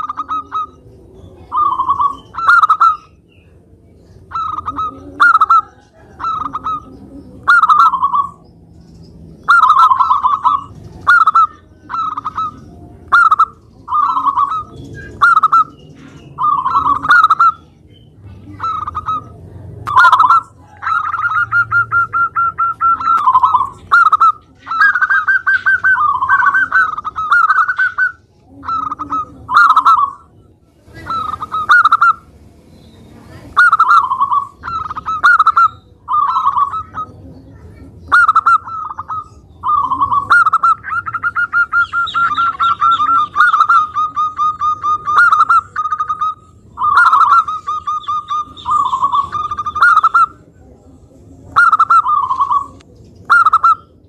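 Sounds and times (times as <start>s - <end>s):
dove cooing: 0.0s - 32.5s, 33.2s - 54.0s.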